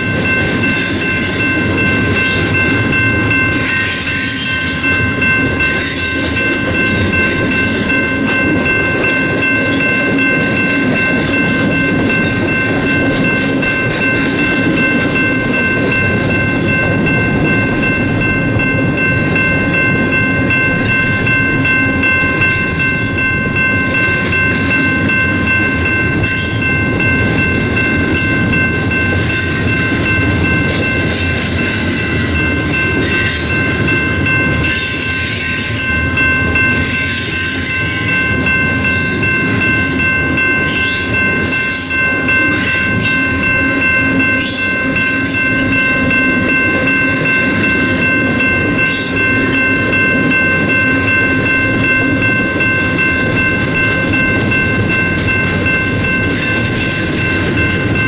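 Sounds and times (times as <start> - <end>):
crossing bell ringing: 0.0 - 58.0
freight train wheels rumbling: 0.0 - 58.0
train cars rattling: 0.0 - 58.0.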